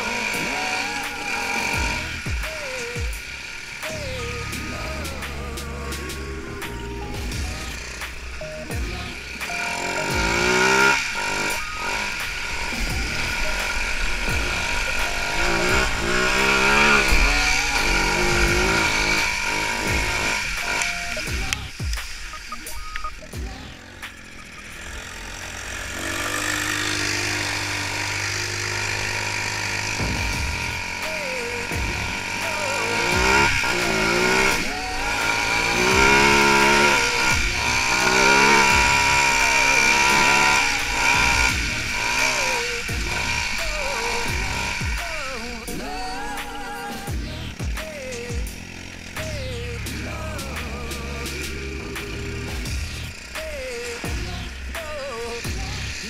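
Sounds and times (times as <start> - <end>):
off-road vehicle engine revving: 0.0 - 56.0.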